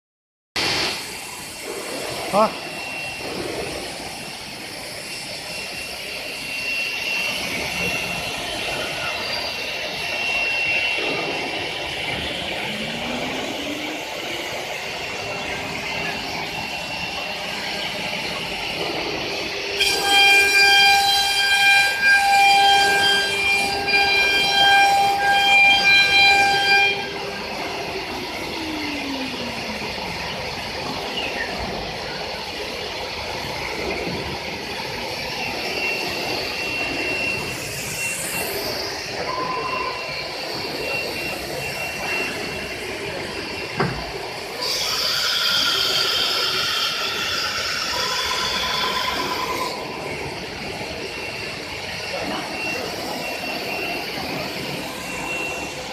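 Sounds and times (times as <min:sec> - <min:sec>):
spindle whining at high speed: 0:00.6 - 0:55.9.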